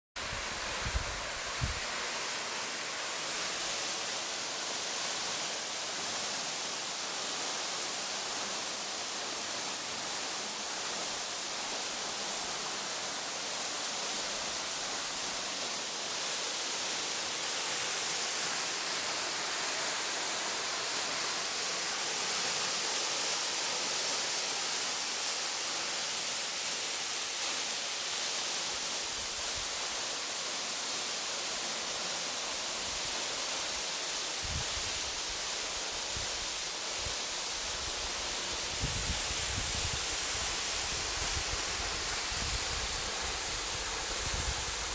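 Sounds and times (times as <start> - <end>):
waterfall hissing: 0.2 - 44.9.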